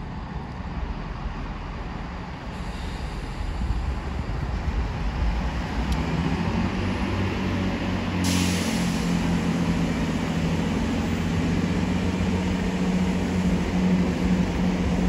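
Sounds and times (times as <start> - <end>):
train engine tones: 0.0 - 15.0
train rumble: 0.0 - 15.0.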